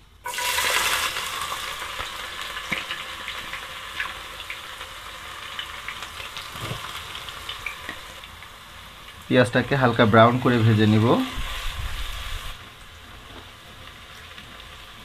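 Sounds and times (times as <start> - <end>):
onion sizzling in hot oil: 0.2 - 15.0.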